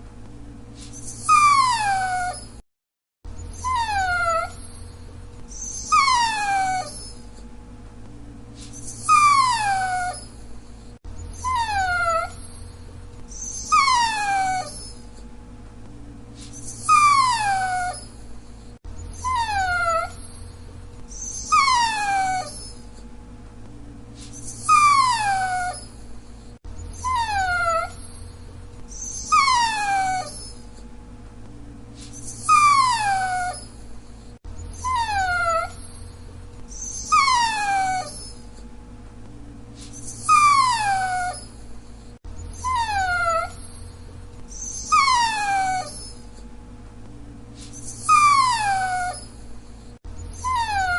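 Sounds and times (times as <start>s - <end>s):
dog whining: 0.8s - 2.6s, 3.3s - 7.5s, 8.6s - 15.3s, 16.4s - 23.1s, 24.2s - 30.9s, 32.0s - 38.7s, 39.8s - 46.5s, 47.6s - 50.9s.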